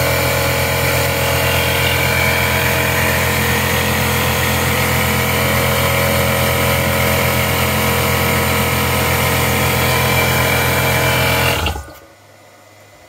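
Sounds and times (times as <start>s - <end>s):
electric air compressor running: 0.0s - 12.1s.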